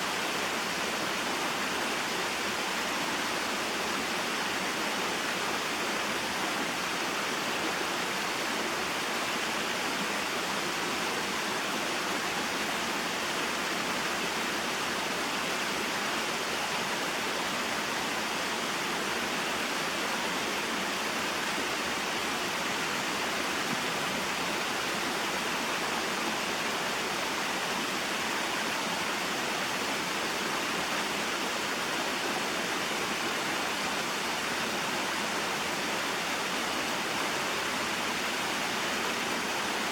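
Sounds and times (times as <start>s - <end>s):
water rushing in a stream: 0.0s - 39.9s.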